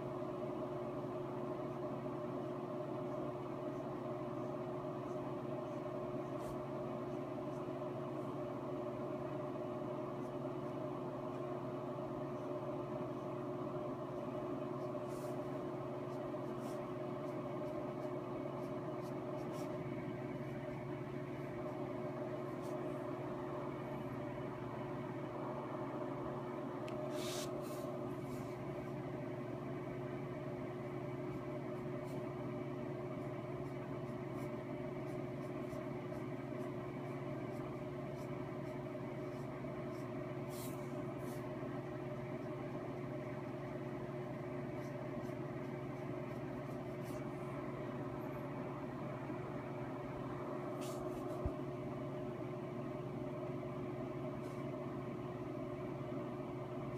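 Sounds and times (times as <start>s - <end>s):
steady mechanical hum: 0.0s - 56.9s.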